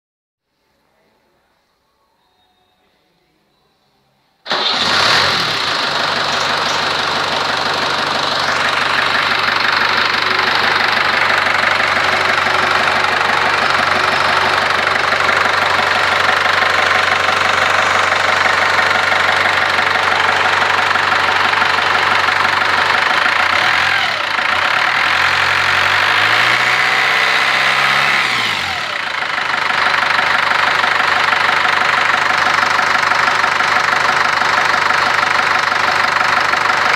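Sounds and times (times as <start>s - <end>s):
diesel engine idling and revving: 4.5s - 36.9s.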